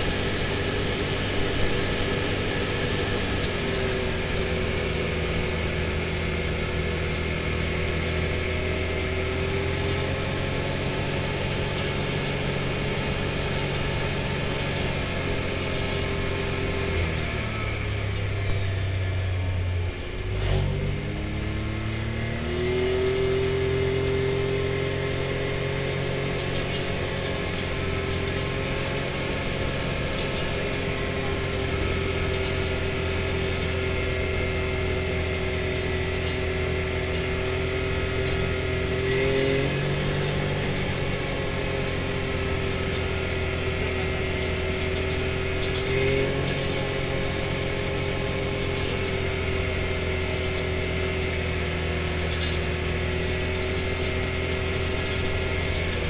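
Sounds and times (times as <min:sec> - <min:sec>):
off-road vehicle engine: 0:00.0 - 0:56.0.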